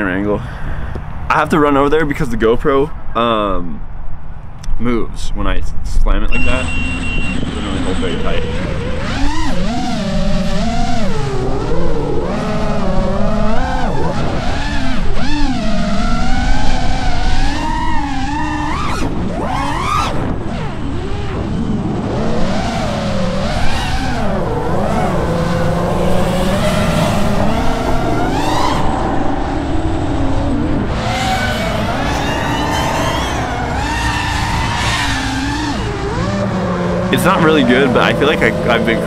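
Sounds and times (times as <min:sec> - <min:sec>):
drone motors whining: 0:06.3 - 0:39.0.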